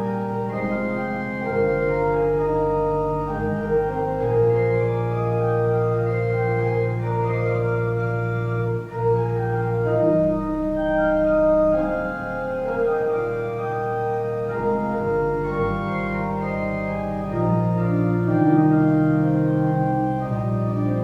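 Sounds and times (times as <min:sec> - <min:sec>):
organ playing slow chords: 0:00.0 - 0:21.0.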